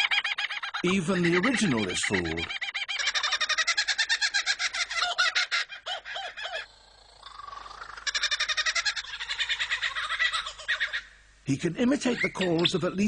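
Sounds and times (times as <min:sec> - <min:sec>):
lyrebird singing: 0:00.0 - 0:13.0.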